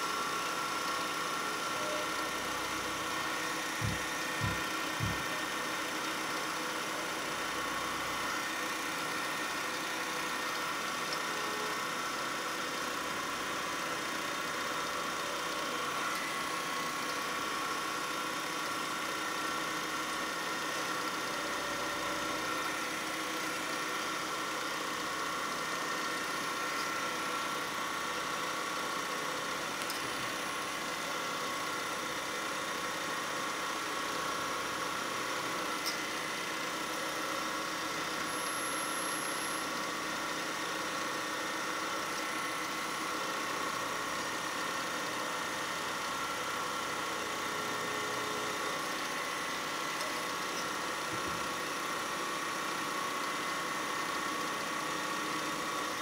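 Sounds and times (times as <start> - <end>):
lathe motor humming: 0.0 - 56.0.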